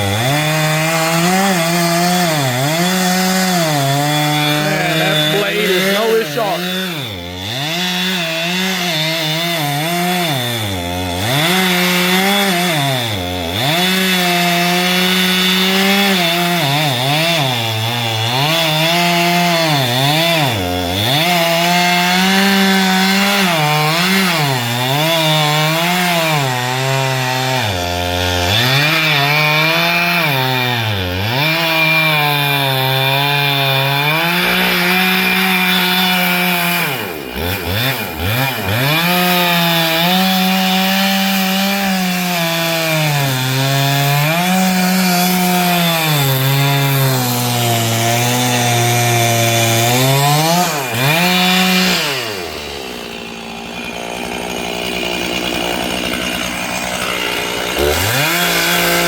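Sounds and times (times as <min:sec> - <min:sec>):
chainsaw cutting wood revving: 0:00.0 - 0:59.0.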